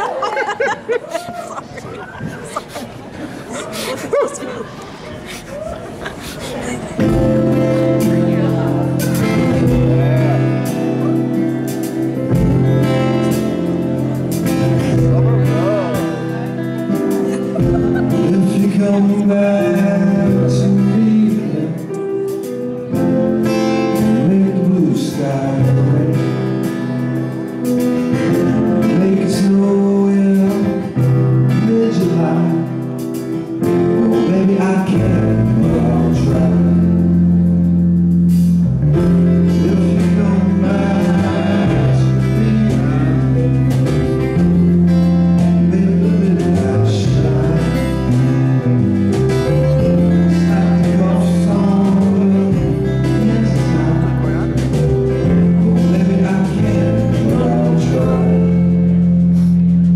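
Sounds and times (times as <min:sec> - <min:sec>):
live band playing: 0:06.2 - 0:59.9
man singing: 0:06.9 - 0:37.8, 0:38.9 - 0:59.9
bass: 0:06.9 - 0:59.9.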